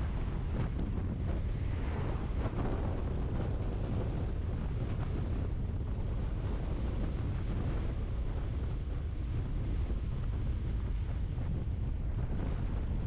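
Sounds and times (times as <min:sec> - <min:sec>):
vehicle road and wind rumble: 0:00.0 - 0:13.0.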